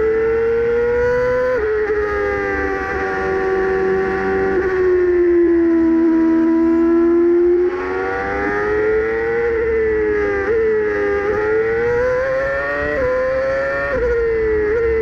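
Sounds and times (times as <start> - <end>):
racing car engine revving: 0.0 - 15.0.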